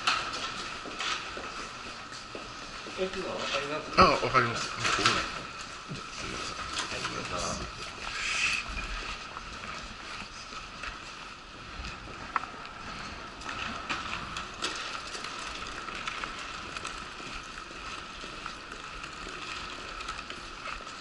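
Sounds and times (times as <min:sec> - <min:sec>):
wheelchair rolling on tiled floor: 0:00.0 - 0:21.0.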